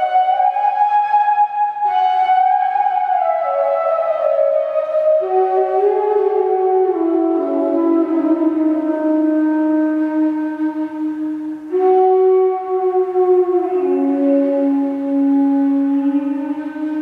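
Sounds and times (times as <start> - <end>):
bamboo flute melody: 0.0 - 17.0.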